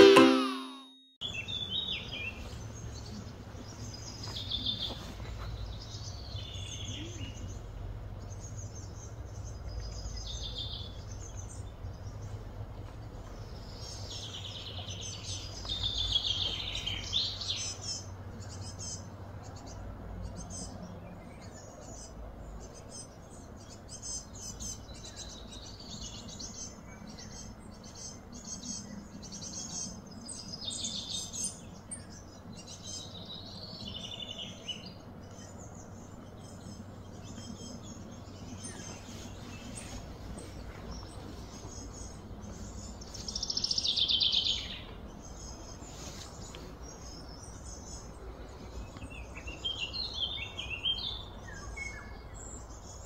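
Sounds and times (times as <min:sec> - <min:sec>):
small birds chirping: 0:01.2 - 0:53.0.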